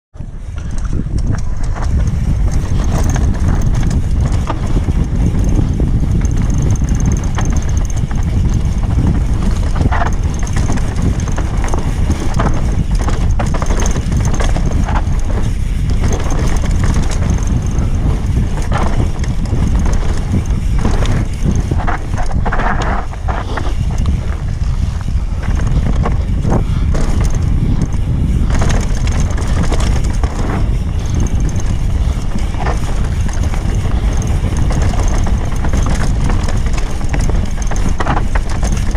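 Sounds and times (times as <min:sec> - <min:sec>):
wind buffeting microphone: 0:00.1 - 0:38.9
bike clicks and rattles: 0:00.2 - 0:38.9
tyre rumble: 0:00.2 - 0:38.9.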